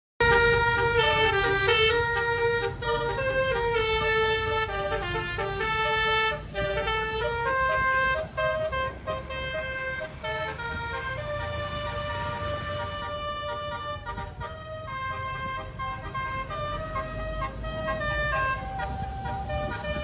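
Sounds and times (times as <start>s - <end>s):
multi-tone air horn melody: 0.2s - 20.0s.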